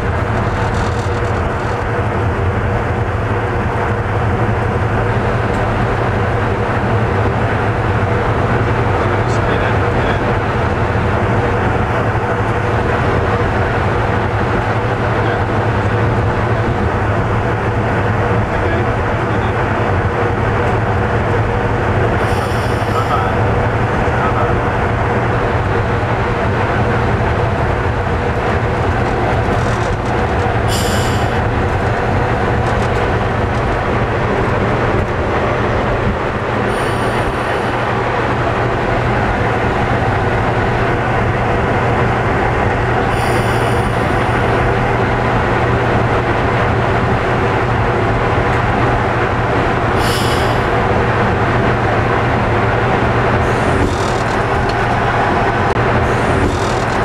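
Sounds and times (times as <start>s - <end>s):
diesel locomotive engines running: 0.0s - 57.0s.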